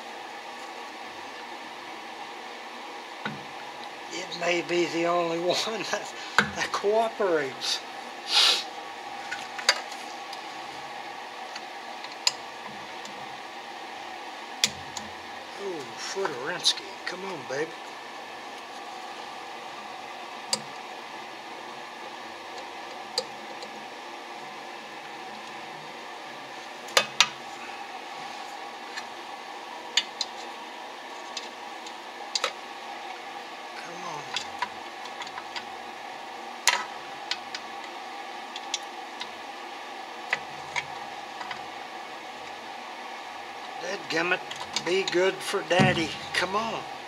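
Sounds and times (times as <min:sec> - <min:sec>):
steady background hiss: 0:00.0 - 0:47.0
steady hum: 0:00.0 - 0:47.0.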